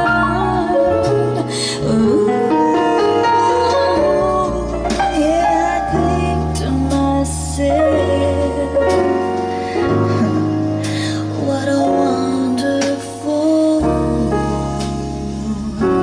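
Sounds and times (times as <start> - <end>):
bass: 0.0 - 16.0
person singing slow song: 0.0 - 16.0
piano: 0.0 - 16.0.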